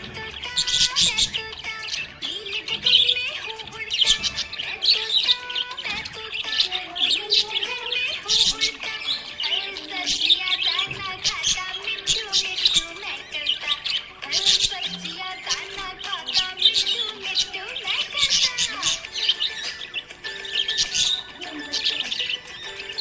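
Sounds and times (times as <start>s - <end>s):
background music: 0.0s - 23.0s
budgerigar chirping: 0.0s - 23.0s.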